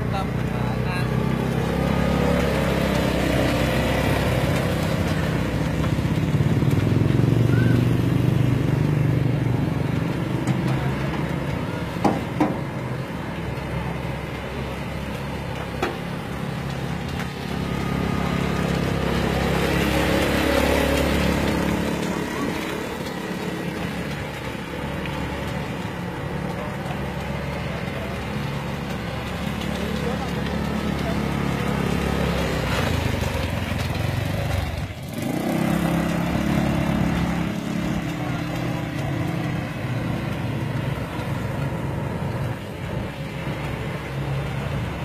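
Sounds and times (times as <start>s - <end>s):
quad bike engine running: 0.0s - 45.0s.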